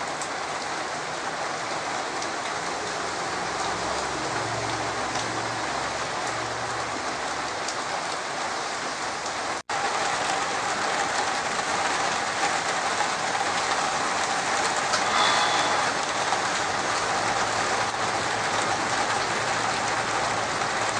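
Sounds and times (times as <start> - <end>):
heavy rain patter: 0.0 - 20.9.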